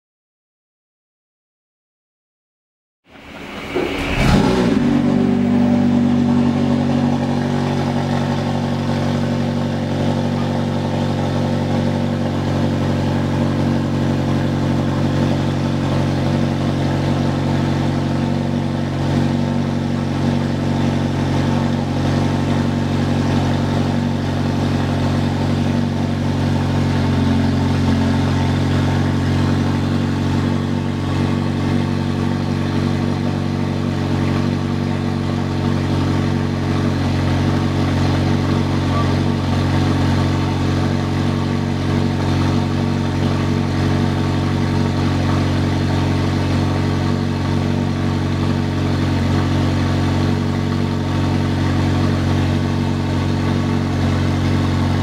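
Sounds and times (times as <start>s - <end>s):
car engine idling: 3.1s - 55.0s.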